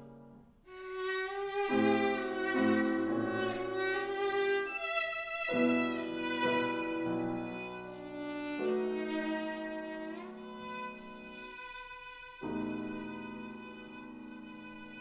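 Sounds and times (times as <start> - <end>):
violin slow melody: 0.7 - 15.0.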